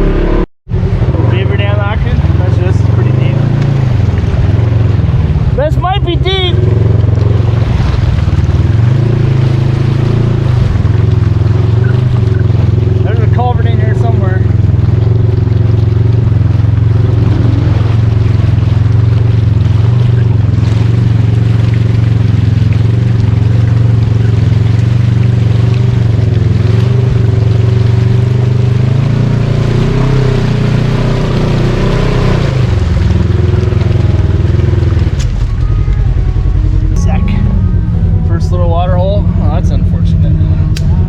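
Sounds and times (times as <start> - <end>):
off-road vehicle engine under load: 0.0 - 41.0.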